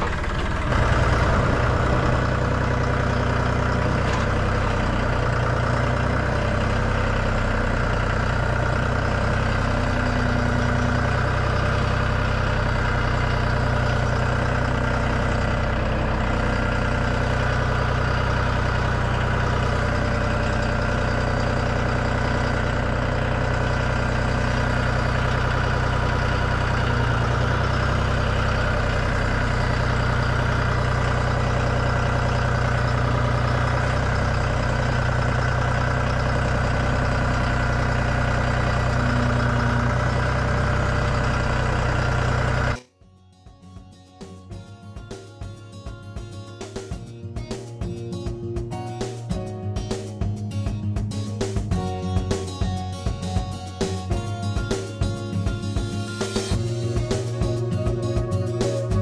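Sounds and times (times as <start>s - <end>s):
tractor diesel engine running: 0.0s - 42.9s, 43.9s - 59.0s.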